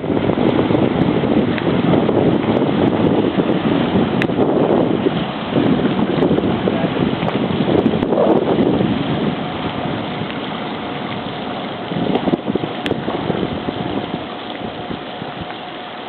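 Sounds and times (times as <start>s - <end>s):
wind buffeting microphone: 0.0s - 15.8s
engine running: 0.0s - 16.0s.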